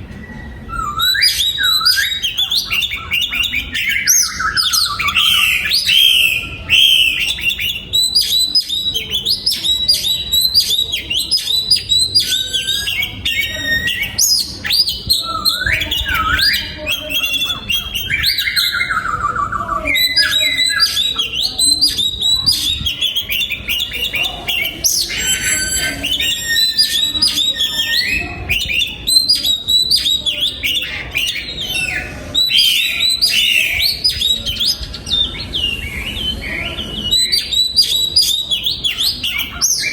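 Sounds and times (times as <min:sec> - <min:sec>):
harsh chattering bird notes: 0:00.0 - 0:39.9
songbird singing whistled phrases: 0:00.1 - 0:39.9.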